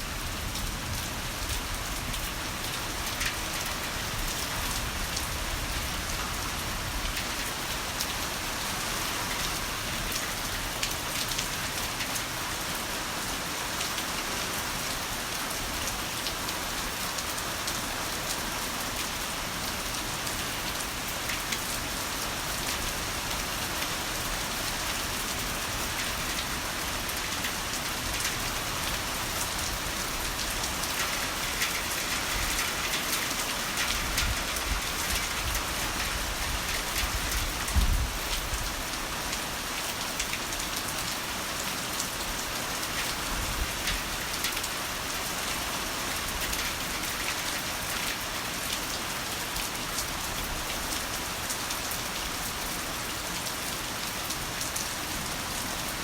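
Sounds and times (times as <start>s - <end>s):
heavy rain hiss: 0.0s - 56.0s
raindrops hitting surfaces: 0.0s - 56.0s.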